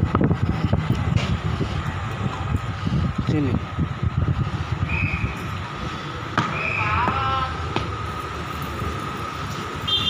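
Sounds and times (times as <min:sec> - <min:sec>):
high pump whine: 0:00.0 - 0:10.0.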